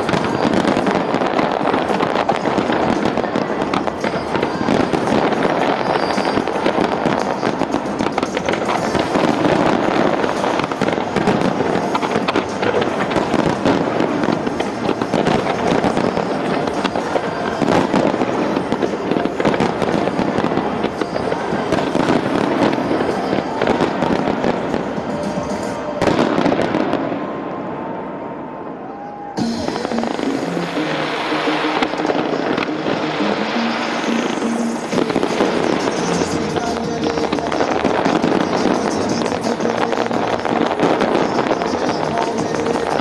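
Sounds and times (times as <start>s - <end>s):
music playing: 0.0s - 28.2s, 29.2s - 43.0s
fireworks bangs and crackling: 0.0s - 43.0s.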